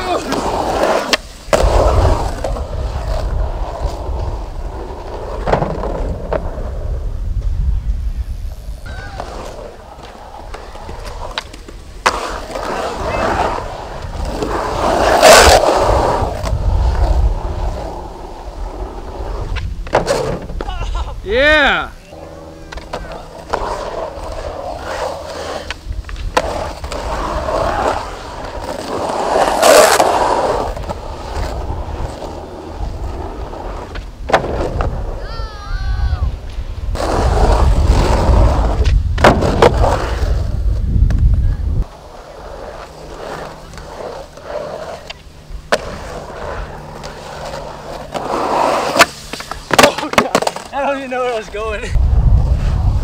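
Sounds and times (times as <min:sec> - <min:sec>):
skateboard wheels rolling on asphalt: 0:00.0 - 0:53.0.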